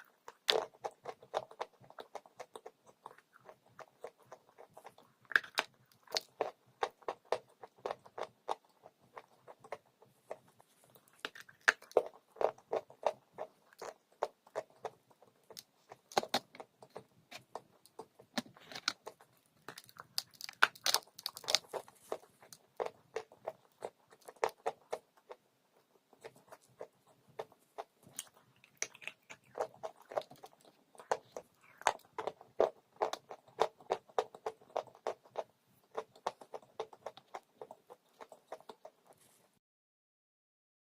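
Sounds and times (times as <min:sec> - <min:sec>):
chewing crunchy chalk: 0:00.0 - 0:39.5.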